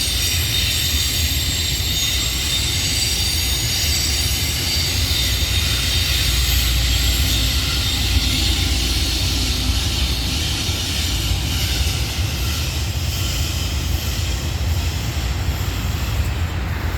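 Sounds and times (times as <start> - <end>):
train rumbling: 0.0 - 16.9
wheels hissing on rail: 0.0 - 16.9.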